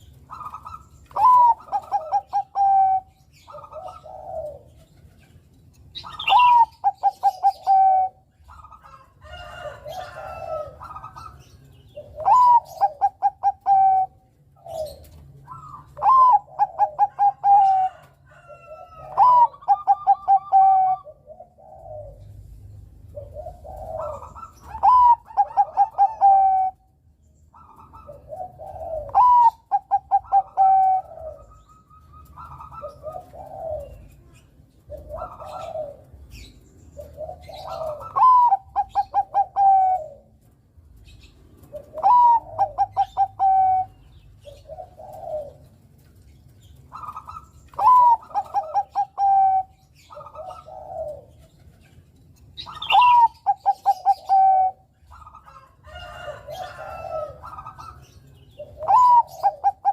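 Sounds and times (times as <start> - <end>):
dove cooing song: 0.0 - 59.9.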